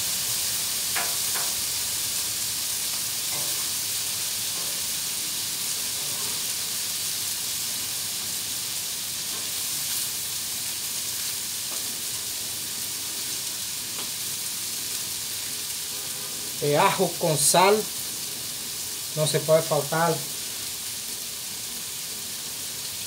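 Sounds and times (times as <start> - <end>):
meat sizzling on a griddle: 0.0 - 23.0.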